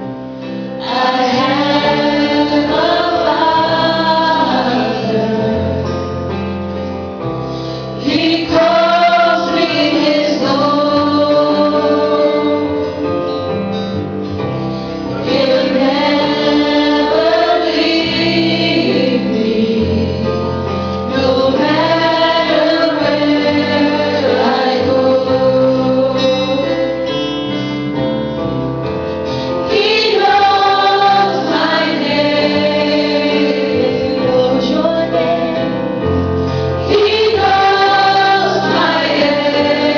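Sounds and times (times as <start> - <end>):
sustained instrumental accompaniment: 0.0 - 39.9
group singing worship song: 0.5 - 6.2, 7.6 - 13.2, 14.7 - 27.0, 29.2 - 39.9.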